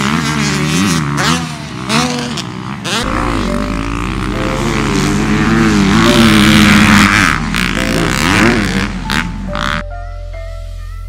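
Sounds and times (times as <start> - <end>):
motocross bike engine revving: 0.0 - 9.8.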